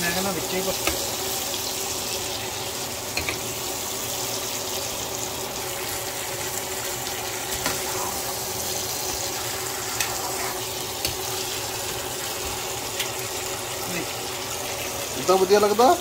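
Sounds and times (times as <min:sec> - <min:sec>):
chicken sizzling in frying pan: 0:00.0 - 0:16.0.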